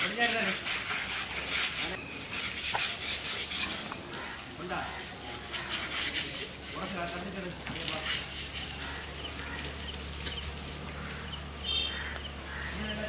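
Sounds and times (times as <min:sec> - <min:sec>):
hand scrubbing wet elephant hide: 0:00.0 - 0:11.6.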